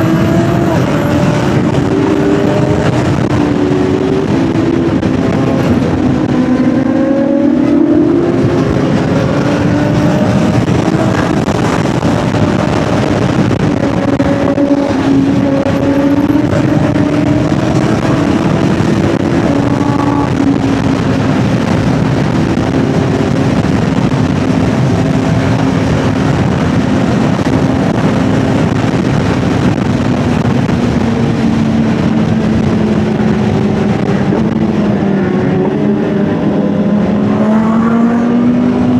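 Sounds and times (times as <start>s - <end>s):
loud wind rush: 0.0s - 38.9s
motorcycle engine cruising: 0.0s - 38.9s.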